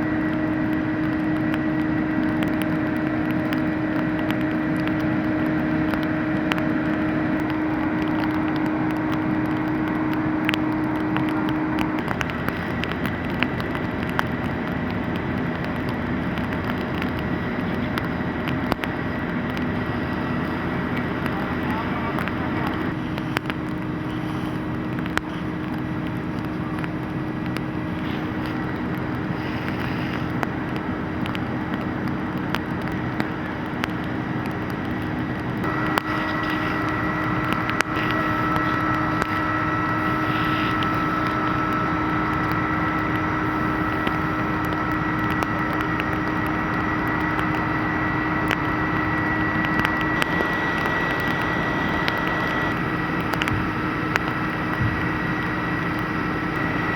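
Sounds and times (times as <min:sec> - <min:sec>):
engines droning: 0:00.0 - 0:56.9
high steady whine: 0:00.0 - 0:56.9.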